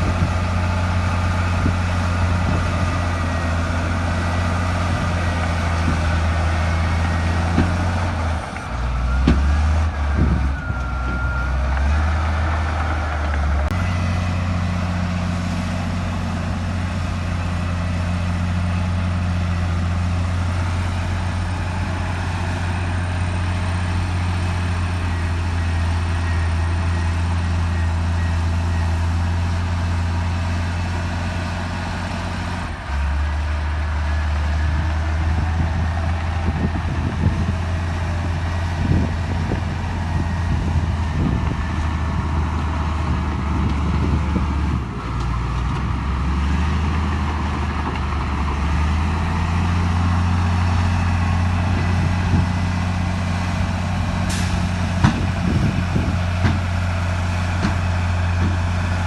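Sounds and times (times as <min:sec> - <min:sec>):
heavy diesel machine engine: 0:00.0 - 0:59.0.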